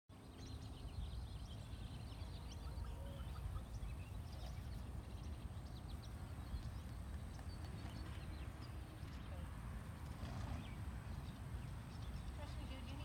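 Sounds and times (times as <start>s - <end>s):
low rumbling background noise: 0.1s - 13.0s
small birds chirping: 0.1s - 13.0s.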